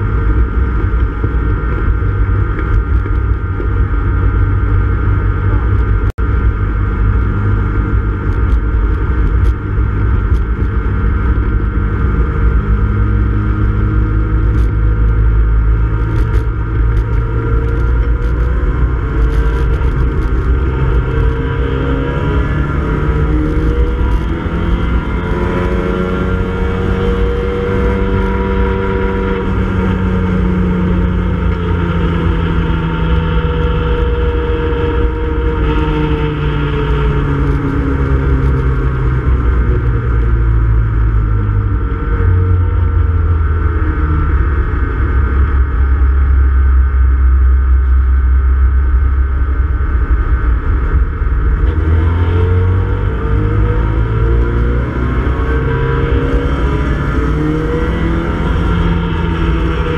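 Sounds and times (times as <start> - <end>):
car engine from inside cabin: 0.0 - 59.9
road and wind noise: 0.0 - 59.9.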